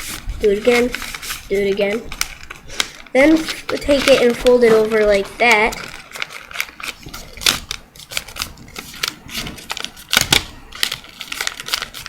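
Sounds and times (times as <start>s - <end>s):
paper being folded and creased: 0.0s - 12.0s.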